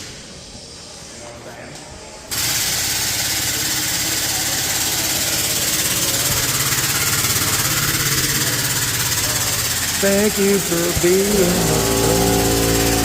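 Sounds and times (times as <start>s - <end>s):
motor-driven machine hiss and hum: 2.3s - 13.0s.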